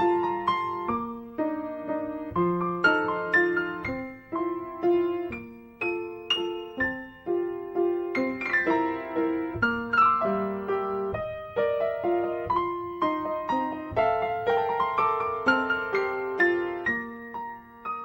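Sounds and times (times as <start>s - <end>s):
piano melody: 0.0s - 18.0s.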